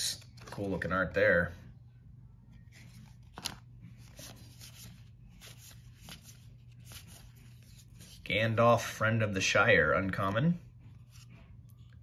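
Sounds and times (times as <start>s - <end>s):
cards rustling in hands: 0.0s - 1.1s, 2.5s - 9.0s, 9.7s - 12.0s.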